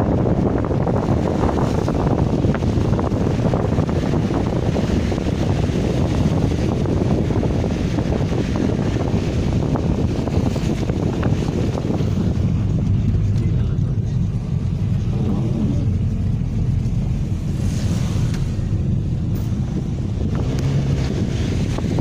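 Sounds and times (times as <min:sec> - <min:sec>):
car driving rumble: 0:00.0 - 0:22.0
tyres on wet road: 0:00.0 - 0:22.0.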